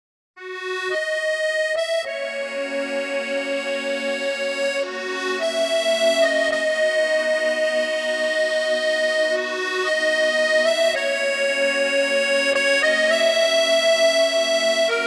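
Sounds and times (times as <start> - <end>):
accordion playing slow melody: 0.4 - 15.0.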